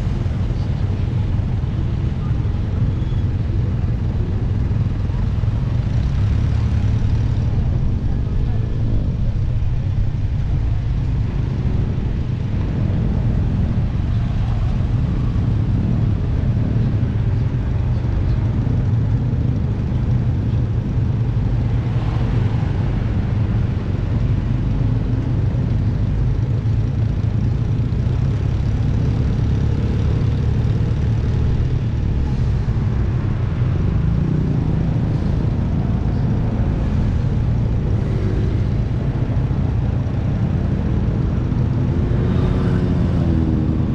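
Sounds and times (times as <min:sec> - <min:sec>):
motorcycle engine rumbling: 0:00.0 - 0:43.9.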